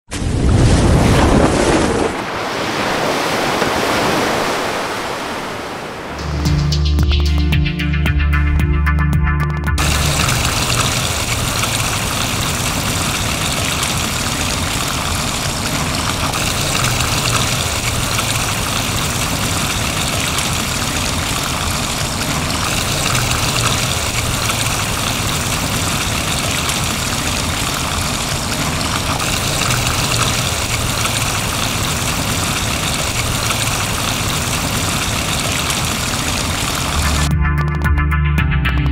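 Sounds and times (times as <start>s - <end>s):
water splashing into pool: 0.1s - 6.5s, 9.8s - 37.3s.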